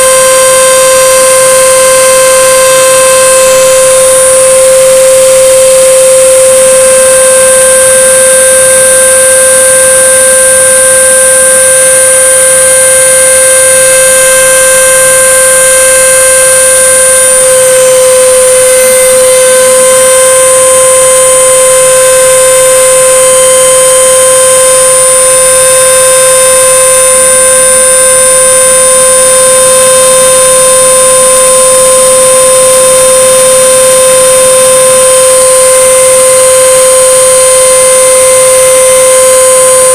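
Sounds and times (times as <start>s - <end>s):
router spindle high-pitched whine: 0.0s - 39.9s.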